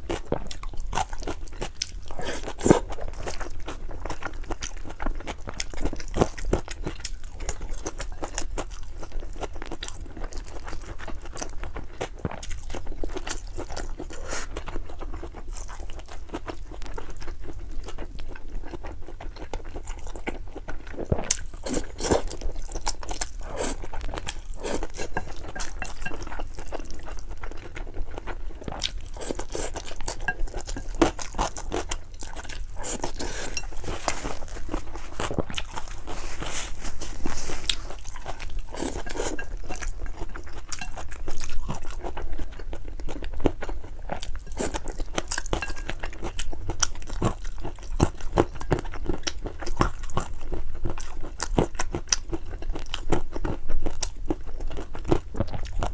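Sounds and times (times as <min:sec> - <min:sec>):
person chewing noodles: 0:00.0 - 0:55.9.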